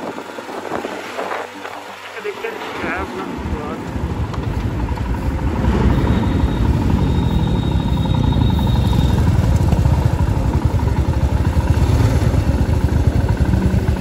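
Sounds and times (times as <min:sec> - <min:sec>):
motorcycle engines idling: 0:00.0 - 0:14.0.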